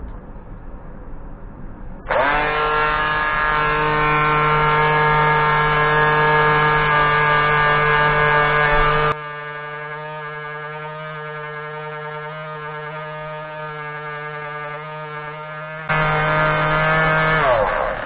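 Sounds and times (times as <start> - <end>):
detail sander buzzing: 2.1 - 18.0.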